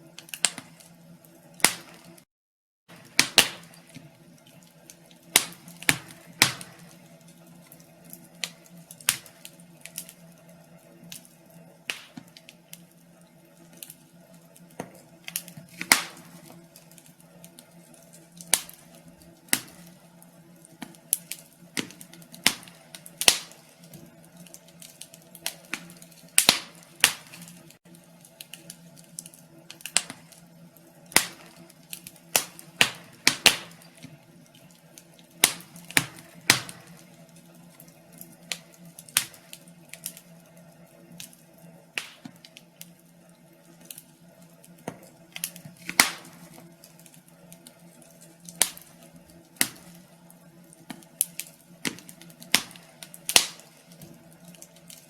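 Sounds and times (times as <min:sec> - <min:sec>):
wood fire crackling: 0:00.0 - 0:02.2, 0:02.9 - 0:55.0.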